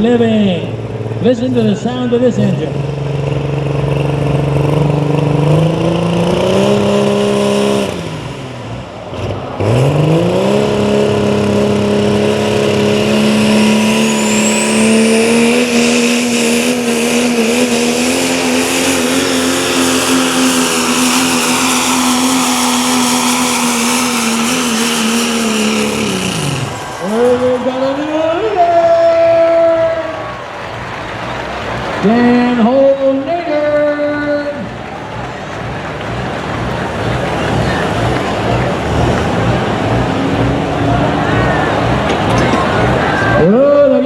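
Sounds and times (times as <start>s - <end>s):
truck engine revving hard: 0.0s - 44.0s.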